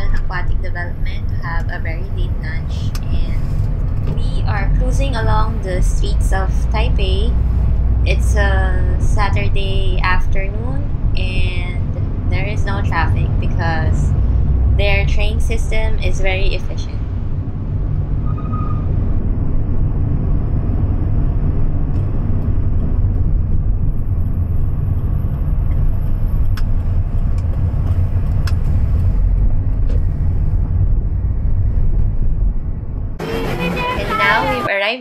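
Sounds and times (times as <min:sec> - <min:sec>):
car interior driving rumble: 0:00.0 - 0:34.7.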